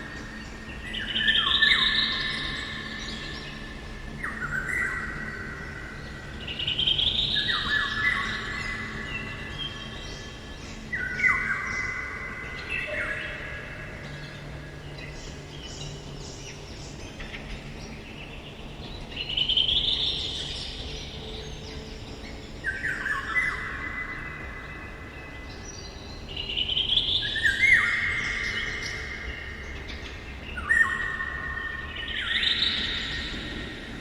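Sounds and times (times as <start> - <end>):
quiet woodland ambience: 0.0 - 34.0
birds whistling and trilling: 0.1 - 34.0.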